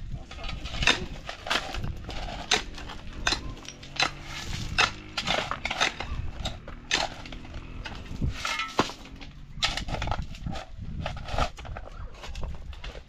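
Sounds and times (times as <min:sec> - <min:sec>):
shovels scraping stony soil: 0:00.2 - 0:13.0.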